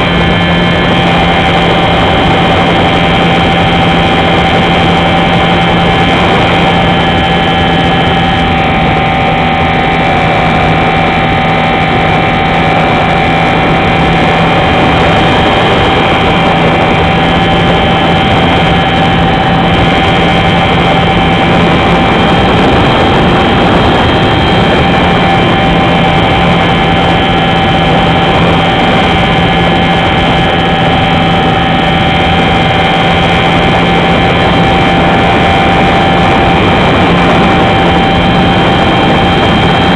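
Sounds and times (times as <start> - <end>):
model airplane motor humming: 0.0 - 39.9
wind rushing: 0.0 - 39.9.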